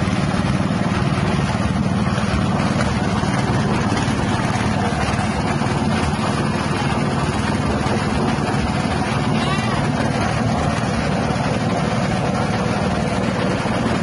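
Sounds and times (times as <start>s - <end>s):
small petrol engine running: 0.0s - 14.0s.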